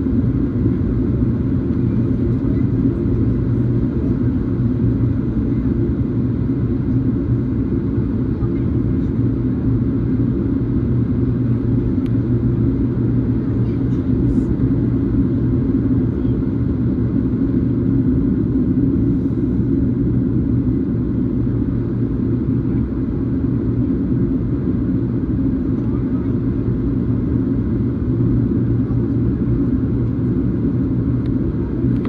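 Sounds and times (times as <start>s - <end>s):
jet engines low rumble: 0.0s - 32.0s.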